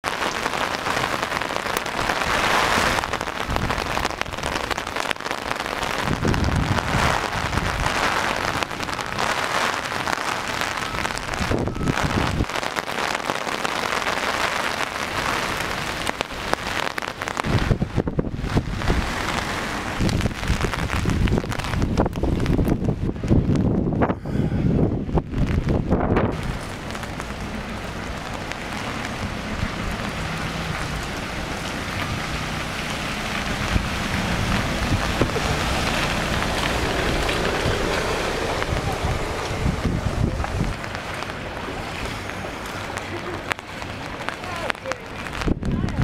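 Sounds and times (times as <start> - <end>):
rain falling on flooded street: 0.0 - 46.0
wind buffeting microphone: 0.6 - 13.2, 14.8 - 46.0.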